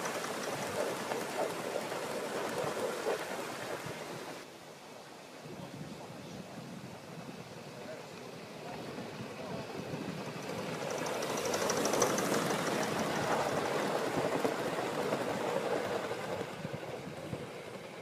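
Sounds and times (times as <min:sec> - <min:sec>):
model train running on rails: 0:00.0 - 0:04.5, 0:06.8 - 0:18.0.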